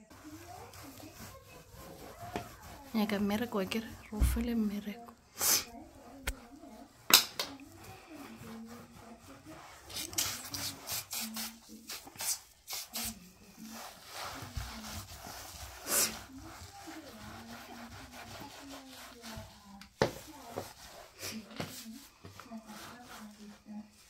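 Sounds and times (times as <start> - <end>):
cloth scrubbing a surface: 0.0 - 24.0.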